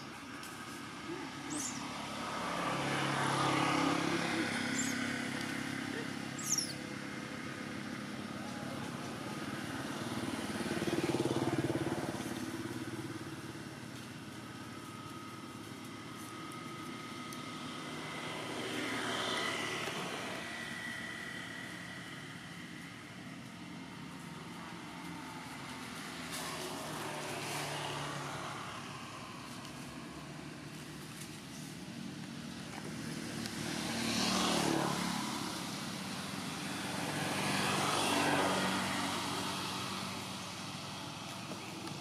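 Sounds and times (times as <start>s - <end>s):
distant road traffic passing: 0.0s - 42.0s.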